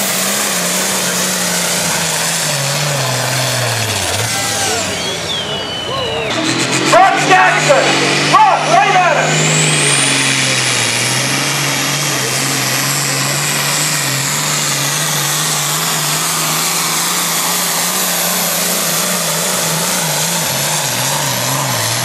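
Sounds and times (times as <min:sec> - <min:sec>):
tractor diesel engine drone: 0:00.0 - 0:22.0.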